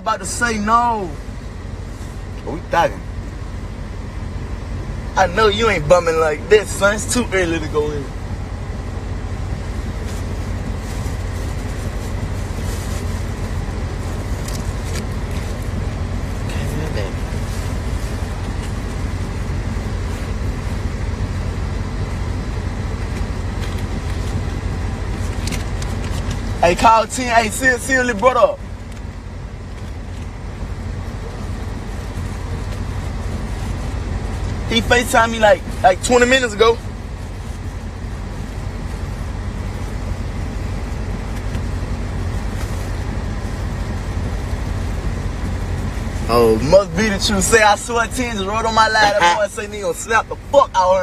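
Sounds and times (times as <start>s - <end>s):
low rumble with hiss: 0.0s - 51.0s.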